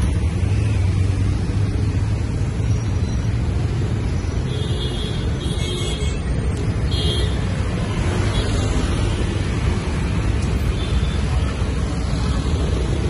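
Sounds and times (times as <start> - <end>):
traffic rumble of engines and tyres: 0.0 - 13.0.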